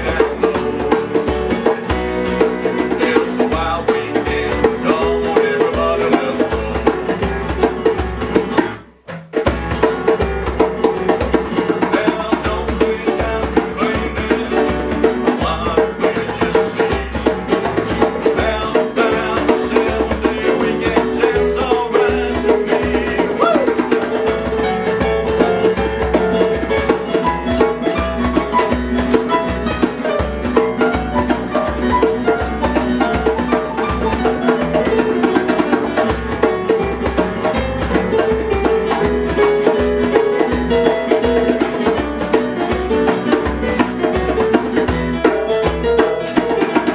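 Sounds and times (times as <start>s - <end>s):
acoustic rock band playing: 0.0s - 46.9s.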